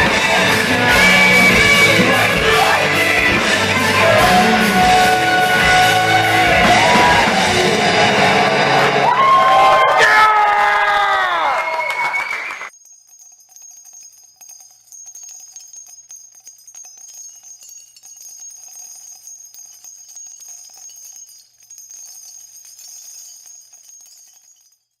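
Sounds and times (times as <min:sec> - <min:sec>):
small bells jingling: 0:00.0 - 0:09.0, 0:12.7 - 0:25.0.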